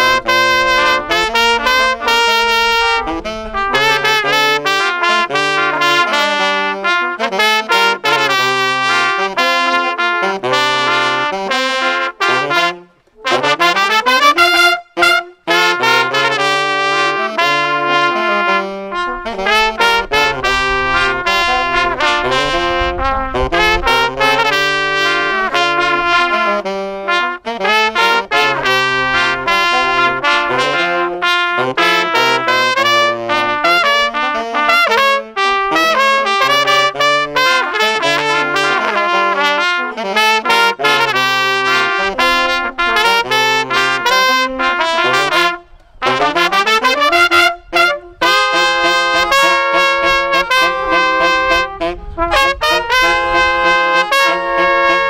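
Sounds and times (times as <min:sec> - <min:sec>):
brass and saxophone ensemble playing: 0:00.0 - 0:55.0.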